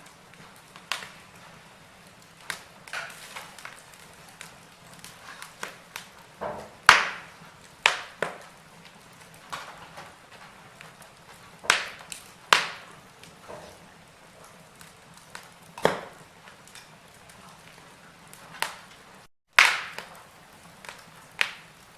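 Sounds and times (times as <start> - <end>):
faint fire hiss: 0.0 - 21.9
logs crackling and popping: 0.0 - 21.9.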